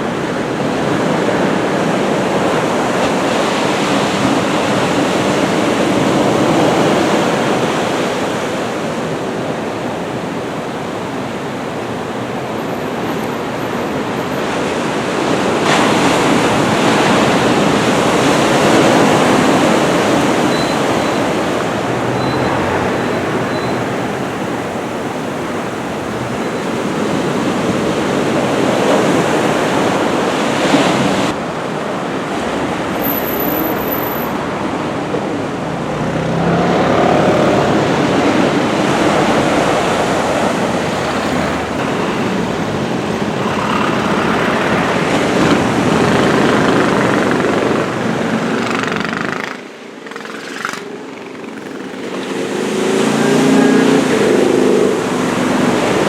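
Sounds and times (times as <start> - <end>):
heavy surf rushing: 0.0 - 56.0
passing road traffic: 0.0 - 56.0.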